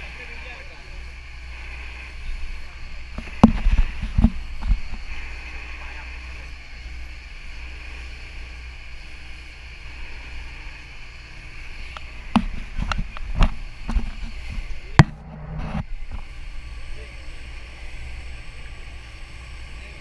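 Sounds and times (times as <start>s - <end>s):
boat engine drone: 0.0s - 20.0s
wind and water hiss: 0.0s - 20.0s.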